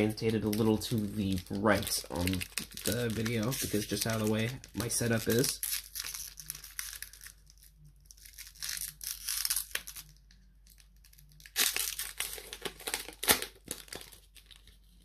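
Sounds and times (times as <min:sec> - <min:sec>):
foil wrapper tearing and crinkling: 0:00.0 - 0:15.0.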